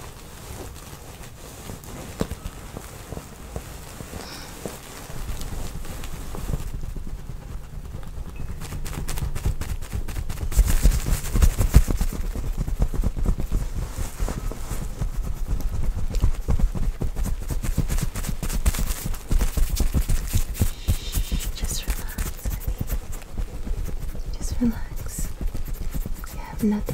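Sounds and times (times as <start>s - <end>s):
hands massaging bare skin: 0.0s - 26.9s.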